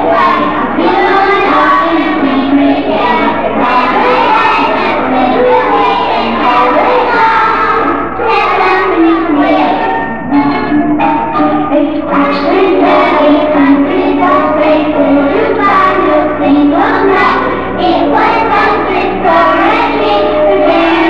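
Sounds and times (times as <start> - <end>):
children singing: 0.0 - 21.0
steady low hum: 0.0 - 21.0.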